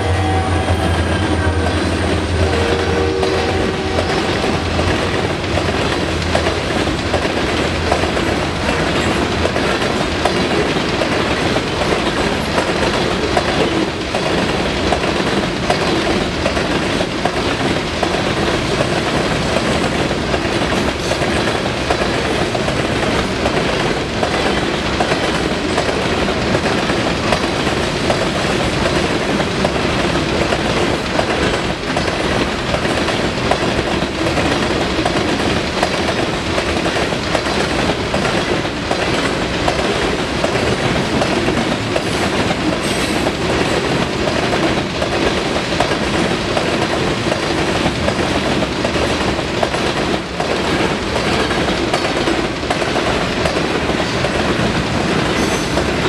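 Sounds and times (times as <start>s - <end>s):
steel wheels rumbling on rail: 0.0s - 56.0s
wheels clacking over rail joints: 1.3s - 56.0s.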